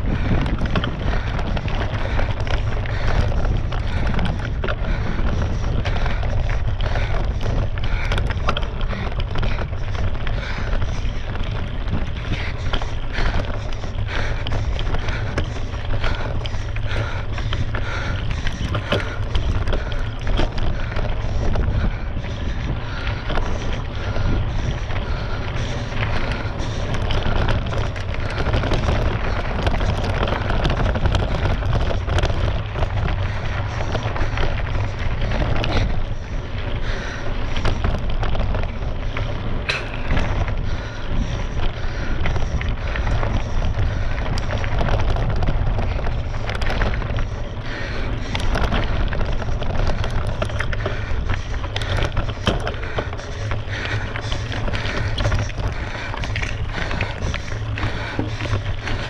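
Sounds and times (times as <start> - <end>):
bike clicks and rattles: 0.0 - 59.0
wind rumbling on microphone: 0.0 - 59.0.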